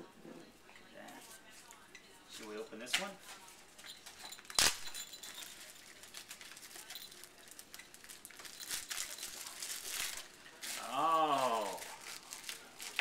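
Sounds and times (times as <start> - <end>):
gift wrapping rustling: 2.3 - 13.0.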